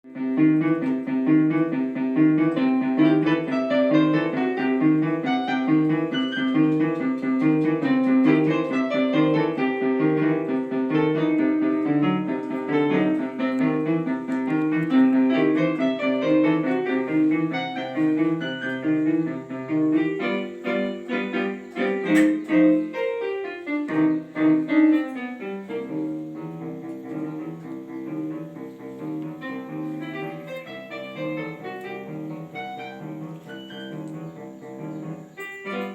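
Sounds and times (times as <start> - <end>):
piano playing repeated chords: 0.0 - 35.9.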